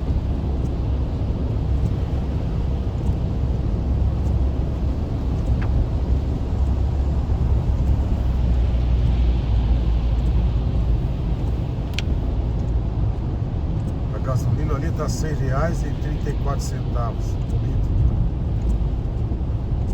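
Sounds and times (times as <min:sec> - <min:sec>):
car engine and tyres rumbling: 0:00.0 - 0:19.9.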